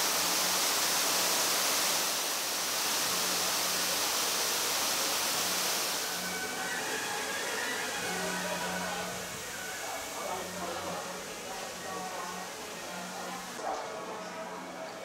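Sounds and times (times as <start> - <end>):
water falling into a pool: 0.0 - 13.6.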